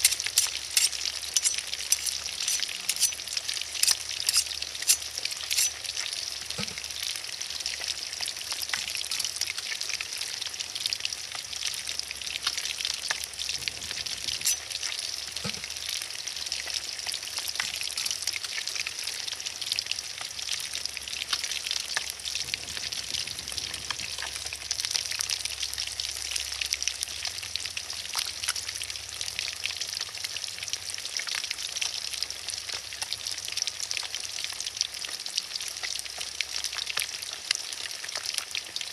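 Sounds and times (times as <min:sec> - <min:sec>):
fish sizzling in hot oil: 0:00.0 - 0:38.9
oil popping and crackling: 0:00.0 - 0:38.9.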